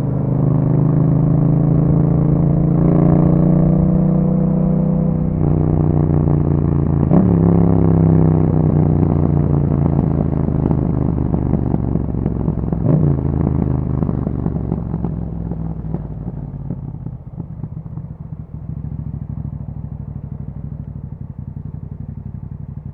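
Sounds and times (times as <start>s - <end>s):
motorcycle engine idling: 0.0s - 2.7s, 4.9s - 22.9s
motorcycle engine revving: 0.0s - 22.9s.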